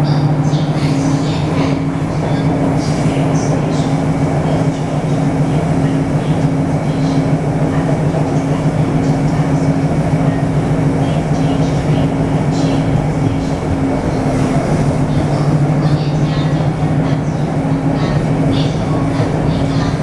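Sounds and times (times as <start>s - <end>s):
train running on track: 0.0s - 20.0s
two-tone inverter hum: 0.0s - 20.0s.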